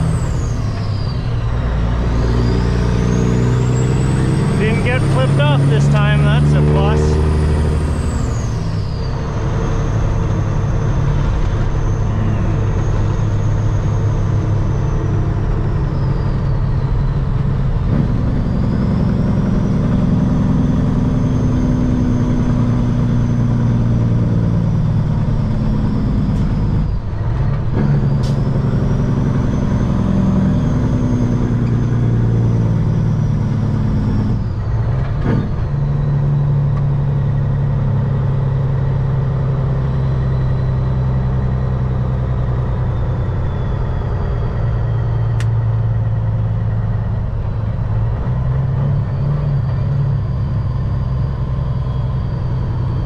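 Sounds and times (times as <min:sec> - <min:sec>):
diesel truck engine: 0:00.0 - 0:53.0.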